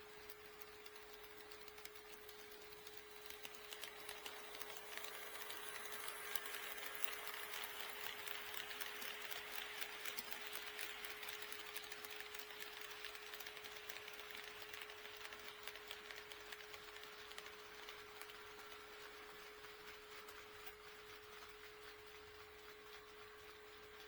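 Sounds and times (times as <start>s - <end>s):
model train clicking and rattling: 0.0s - 24.0s.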